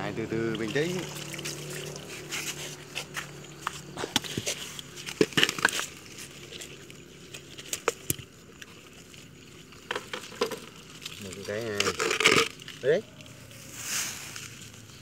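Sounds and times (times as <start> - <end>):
scoop net clicking through water plants: 0.5 - 13.4.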